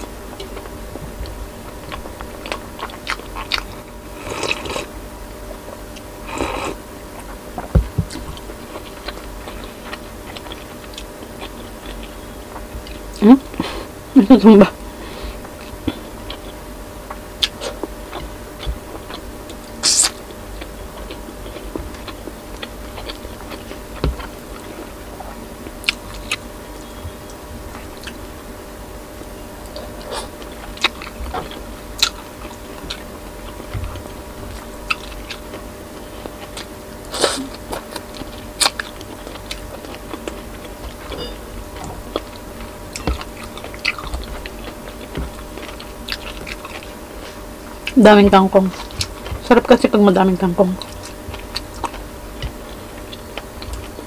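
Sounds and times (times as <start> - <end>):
person chewing food: 0.0 - 14.0, 15.0 - 28.4, 29.2 - 48.0, 48.6 - 49.5, 50.8 - 54.0.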